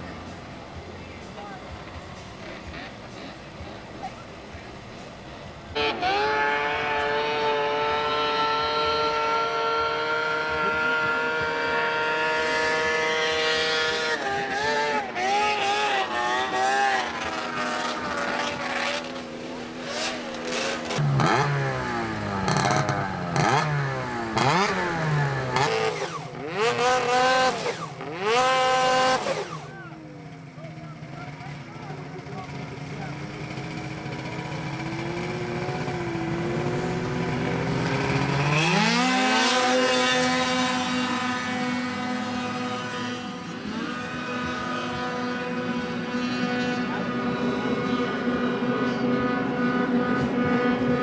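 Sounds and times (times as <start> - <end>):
snowmobile engine revving: 0.0 - 51.0.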